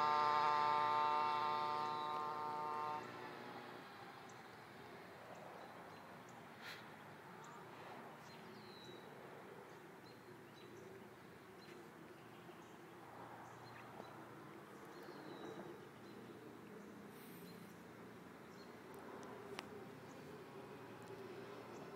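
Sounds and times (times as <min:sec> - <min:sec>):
songbirds chirping: 0:00.2 - 0:21.9.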